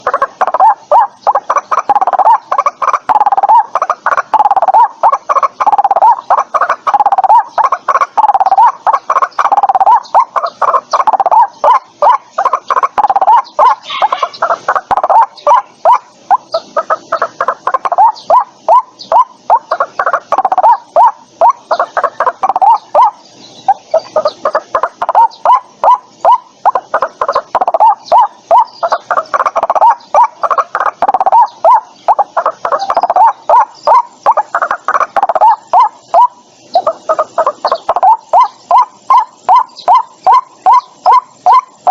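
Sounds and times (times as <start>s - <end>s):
waterhen calling: 0.0s - 41.9s.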